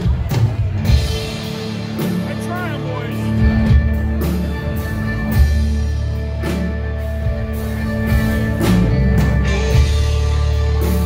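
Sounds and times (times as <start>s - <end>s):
live country-rock band playing: 0.0s - 11.0s.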